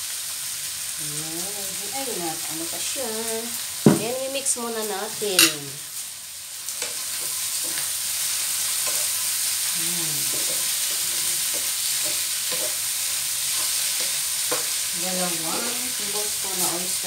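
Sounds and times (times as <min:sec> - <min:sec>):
shrimp sizzling in a pan: 0:00.0 - 0:17.0.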